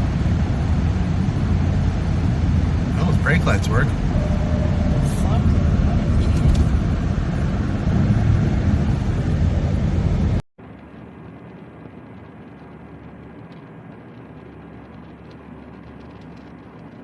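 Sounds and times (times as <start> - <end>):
car road and engine noise: 0.0 - 17.0
quiet vehicle hum: 0.0 - 17.0.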